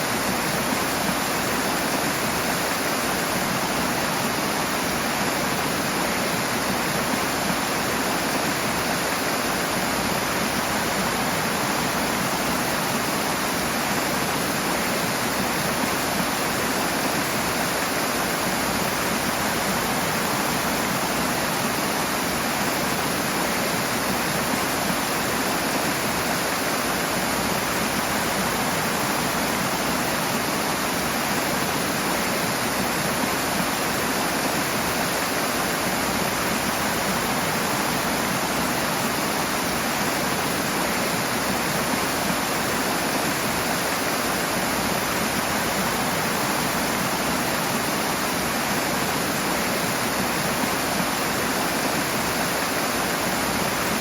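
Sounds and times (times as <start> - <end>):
rushing water torrent: 0.0 - 54.0.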